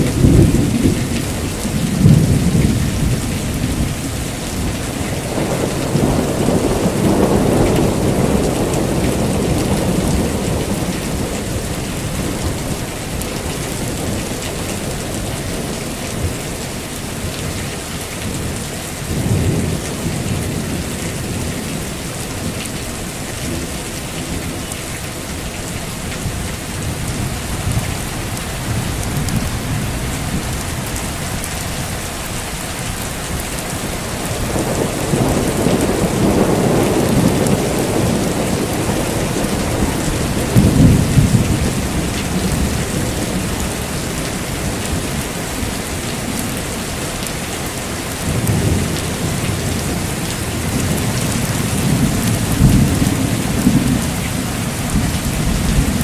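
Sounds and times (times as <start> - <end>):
rolling thunder: 0.0 - 25.2, 26.1 - 46.6, 48.1 - 56.0
heavy rain falling: 0.0 - 56.0.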